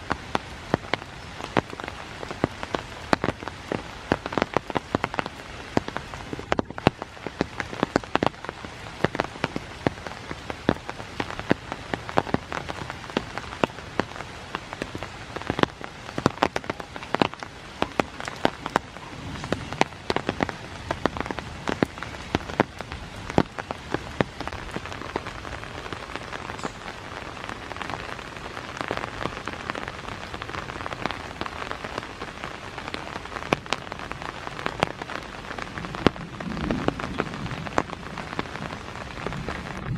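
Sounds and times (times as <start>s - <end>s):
heavy raindrops tapping: 0.0s - 39.9s
steady rain hiss: 0.0s - 39.9s.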